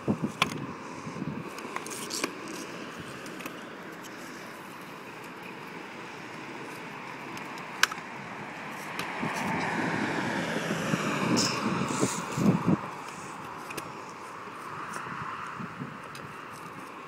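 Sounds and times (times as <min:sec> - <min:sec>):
scooter wheels rolling on concrete: 0:00.0 - 0:17.0.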